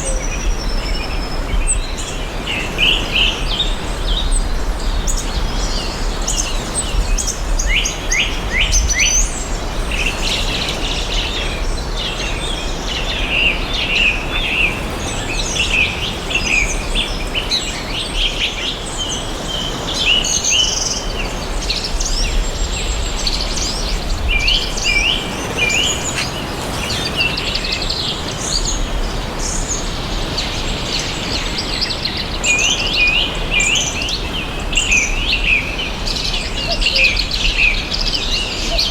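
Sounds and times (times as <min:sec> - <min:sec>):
outdoor background hiss: 0:00.3 - 0:38.9
birds chirping and singing: 0:05.1 - 0:38.9.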